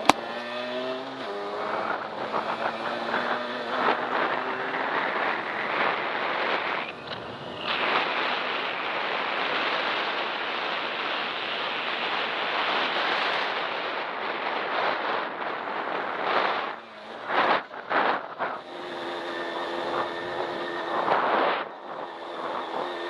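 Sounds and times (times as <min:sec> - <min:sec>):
dirt bike engine: 0:00.0 - 0:10.6, 0:14.8 - 0:23.0
wind rushing on microphone: 0:00.0 - 0:23.0.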